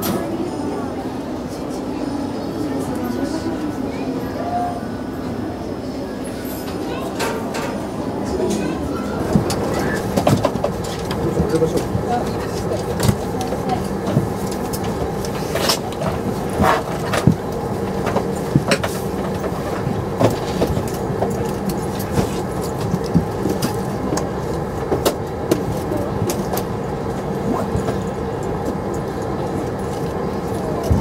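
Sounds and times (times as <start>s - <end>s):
airplane cabin hum: 0.0s - 31.0s.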